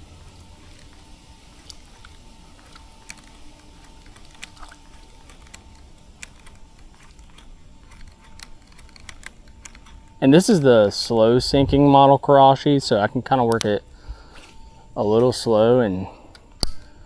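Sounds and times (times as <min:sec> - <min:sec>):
light clicks and ticks: 0:00.0 - 0:11.3, 0:12.8 - 0:15.6
thin steady high tone: 0:00.0 - 0:17.0.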